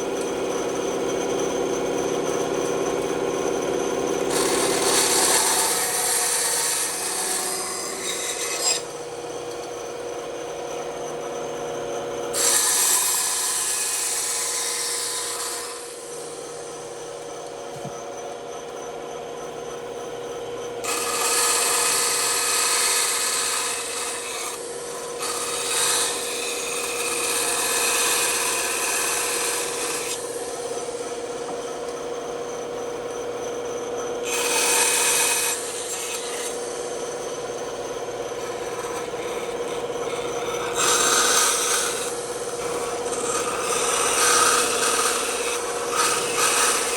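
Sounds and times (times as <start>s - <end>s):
saw blade cutting wood: 0.0s - 11.2s, 12.2s - 18.0s, 20.8s - 32.0s, 34.2s - 46.9s
bandsaw humming: 0.0s - 18.4s, 20.8s - 46.9s.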